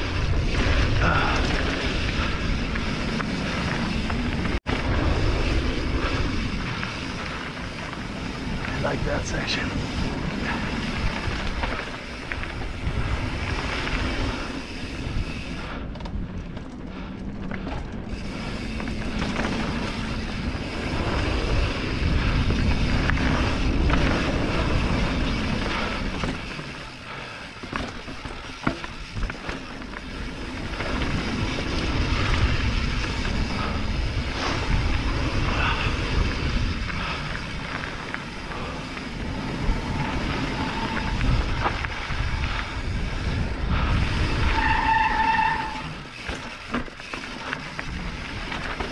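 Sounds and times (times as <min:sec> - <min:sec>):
wind rushing over microphone: 0:00.0 - 0:27.1, 0:28.3 - 0:46.2
bike rattling over rocks: 0:00.0 - 0:48.9.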